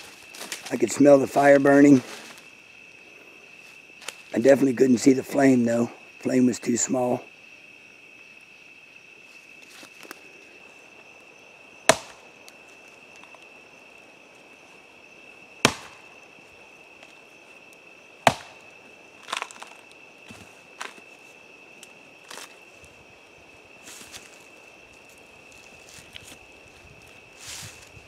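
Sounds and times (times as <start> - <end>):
night insects chirring: 0.0 - 28.0.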